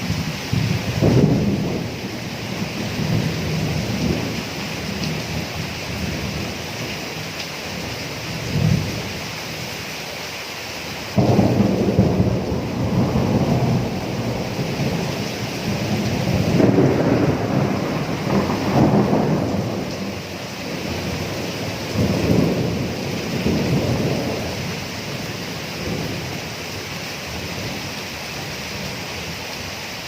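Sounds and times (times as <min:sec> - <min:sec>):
thunder rumbling: 0:00.0 - 0:09.1, 0:11.1 - 0:27.8
steady rain: 0:00.0 - 0:30.0.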